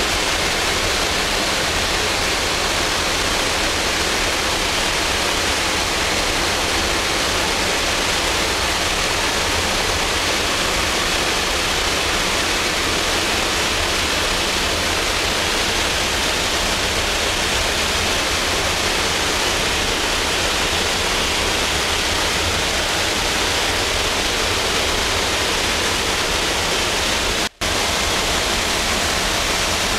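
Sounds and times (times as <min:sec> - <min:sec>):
aircraft engine noise: 0:00.0 - 0:29.9.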